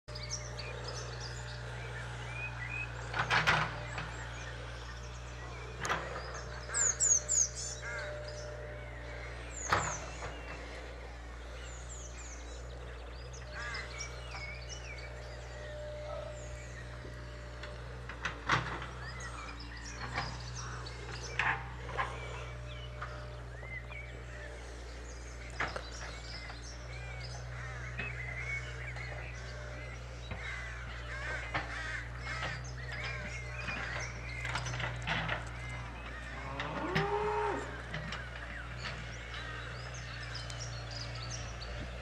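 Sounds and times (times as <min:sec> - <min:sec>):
steady low hum: 0:00.1 - 0:42.0.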